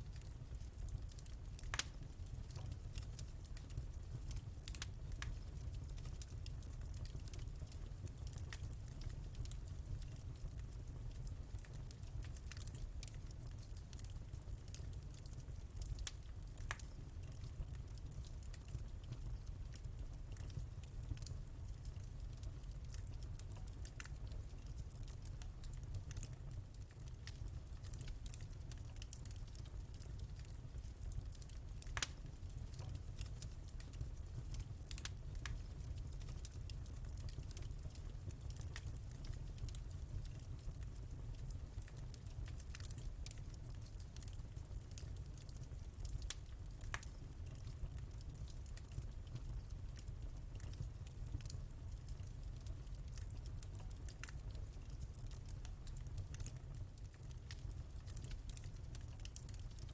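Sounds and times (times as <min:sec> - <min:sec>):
fire popping and snapping: 0:00.0 - 0:59.9
wood fire crackling: 0:00.0 - 0:59.9.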